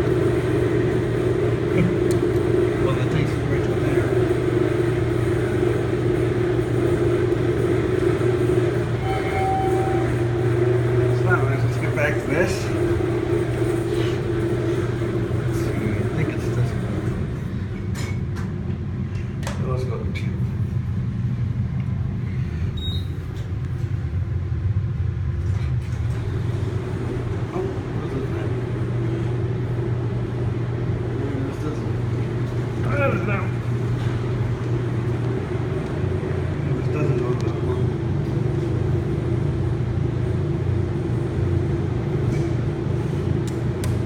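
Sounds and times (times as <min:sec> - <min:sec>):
elevator hum and rumble: 0:00.0 - 0:44.0.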